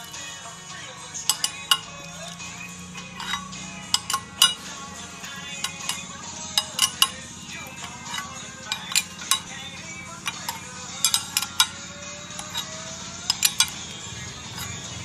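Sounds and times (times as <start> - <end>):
sharp metallic clinks: 1.2 - 15.0.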